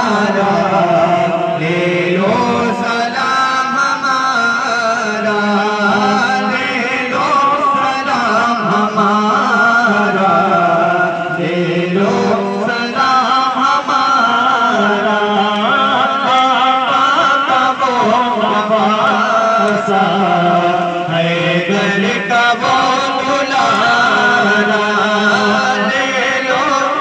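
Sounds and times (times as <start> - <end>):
crowd singing along: 0.0 - 27.0
man chanting into a microphone: 0.0 - 27.0.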